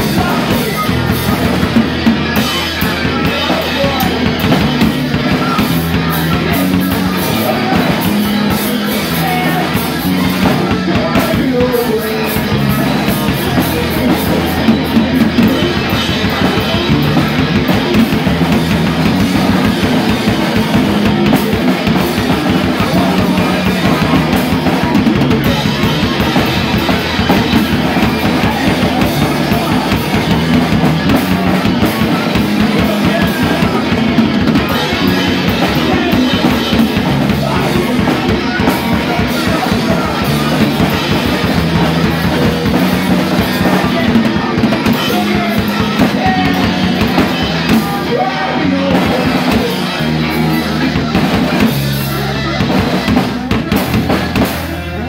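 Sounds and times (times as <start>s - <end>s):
bass guitar: 0.0s - 55.0s
drum kit beat: 0.0s - 55.0s
electric guitar: 0.0s - 55.0s.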